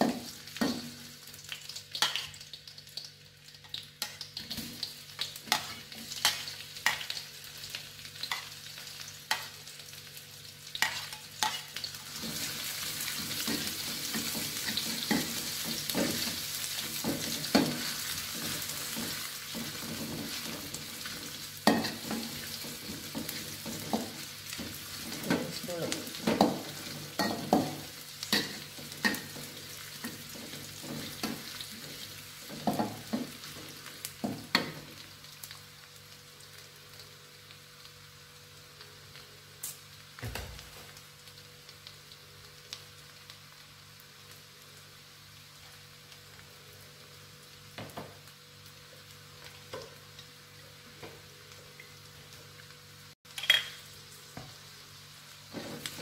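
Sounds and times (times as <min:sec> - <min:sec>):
shallots sizzling in oil: 0:00.0 - 0:56.0.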